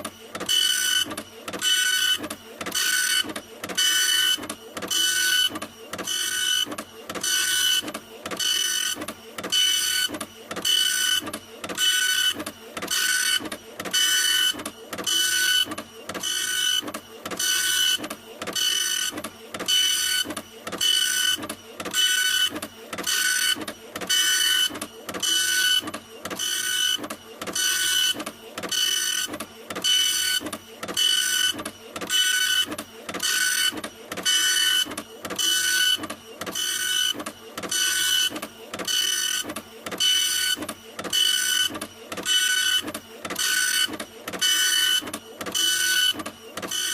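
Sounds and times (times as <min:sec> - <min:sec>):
printer whirring: 0:00.0 - 0:46.9.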